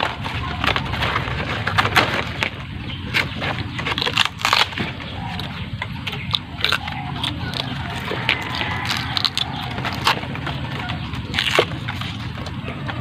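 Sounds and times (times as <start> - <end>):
crunching and chewing: 0.0 - 13.0.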